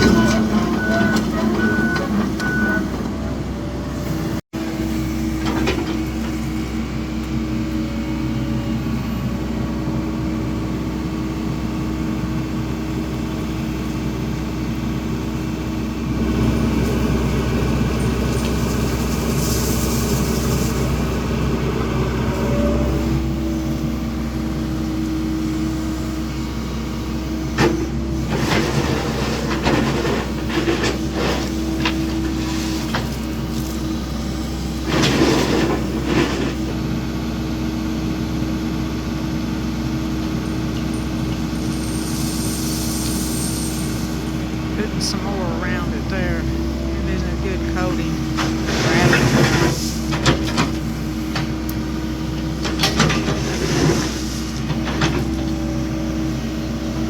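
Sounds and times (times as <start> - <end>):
excavator diesel engine running: 0.0 - 41.7, 43.9 - 57.0.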